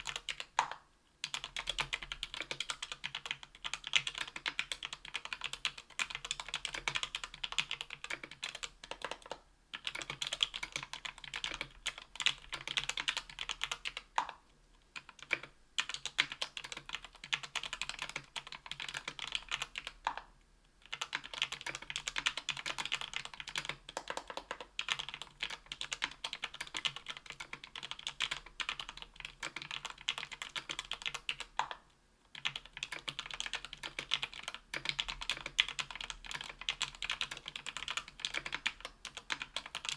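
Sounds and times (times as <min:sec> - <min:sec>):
fast typing on a keyboard: 0:00.0 - 0:14.4, 0:15.0 - 0:20.2, 0:20.8 - 0:39.9.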